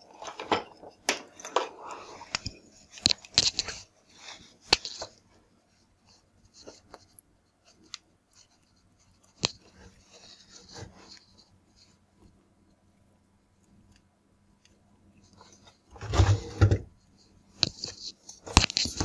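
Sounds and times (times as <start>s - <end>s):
wires rustling and crinkling: 0.0s - 12.8s, 13.6s - 19.0s.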